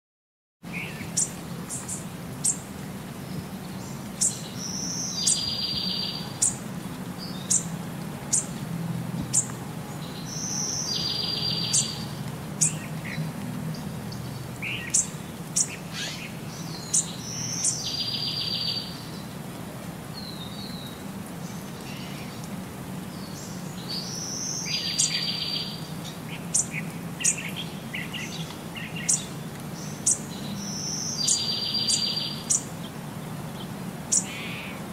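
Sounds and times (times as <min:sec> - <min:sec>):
small birds chirping: 0:00.6 - 0:08.6, 0:09.2 - 0:19.5, 0:20.1 - 0:34.9.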